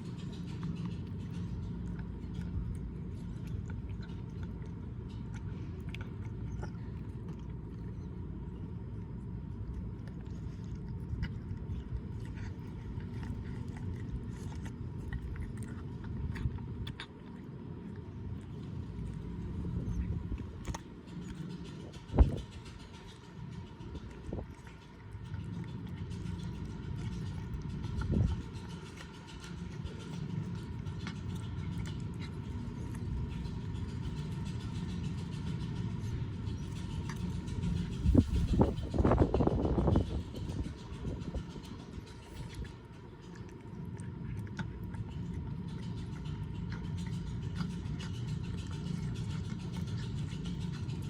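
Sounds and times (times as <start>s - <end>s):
cat chewing on bone: 0.0s - 51.0s
traffic rumble: 0.0s - 51.0s.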